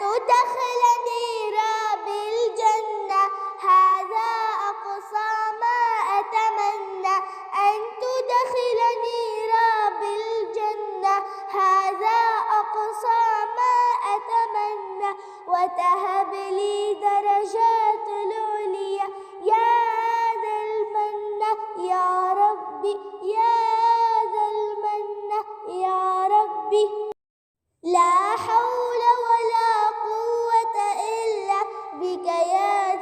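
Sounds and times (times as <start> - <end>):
child singing: 0.0 - 27.2, 27.8 - 33.0.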